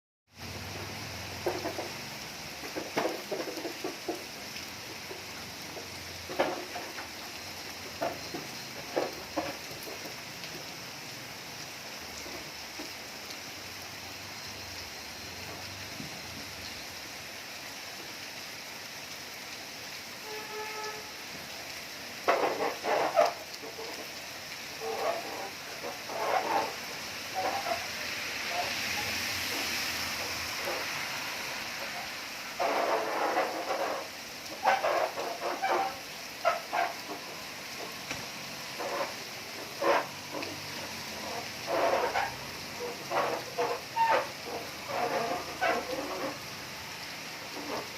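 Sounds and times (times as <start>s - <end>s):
heavy rain falling: 0.3s - 47.9s.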